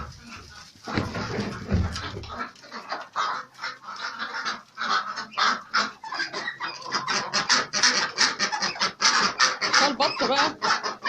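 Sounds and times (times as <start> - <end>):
ducks calling: 0.0 - 11.0.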